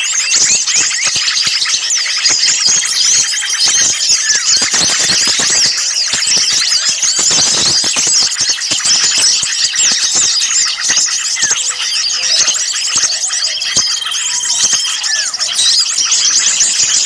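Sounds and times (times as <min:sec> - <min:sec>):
small songbirds chorus chirping: 0:00.0 - 0:17.0.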